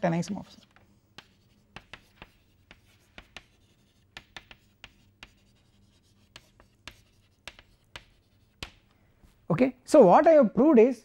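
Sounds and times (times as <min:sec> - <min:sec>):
chalk tapping and scraping on chalkboard: 0:00.0 - 0:09.4.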